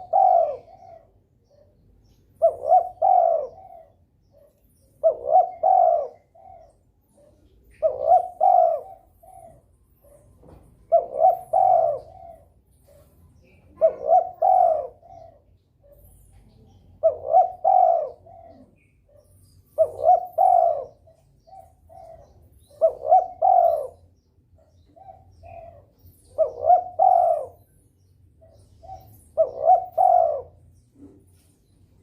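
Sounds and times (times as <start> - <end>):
dove cooing: 0.0 - 27.8, 28.4 - 31.5
small birds chirping: 0.0 - 32.0.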